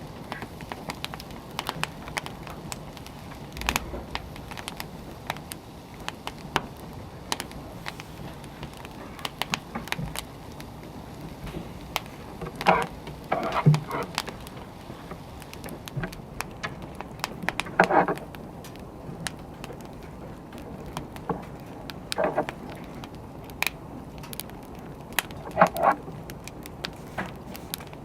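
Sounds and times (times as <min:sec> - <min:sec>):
fire hiss: 0:00.0 - 0:28.0
wood fire crackling and popping: 0:00.0 - 0:28.0.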